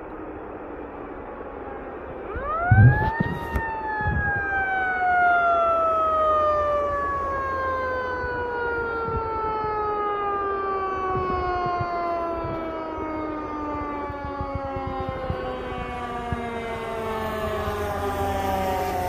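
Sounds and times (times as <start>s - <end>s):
mechanical fire engine siren: 0.0s - 19.0s.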